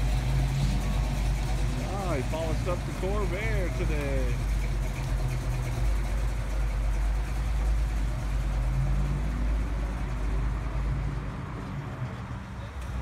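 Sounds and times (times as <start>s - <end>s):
car engine running: 0.0s - 10.9s.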